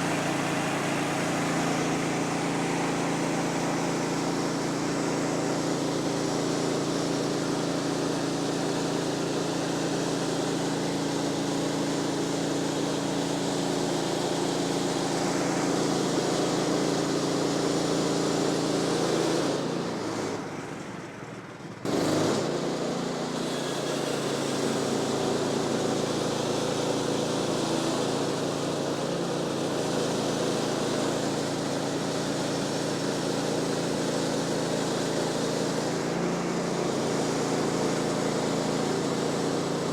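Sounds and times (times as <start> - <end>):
sawmill engine sawing log: 0.0 - 20.5, 21.9 - 39.9.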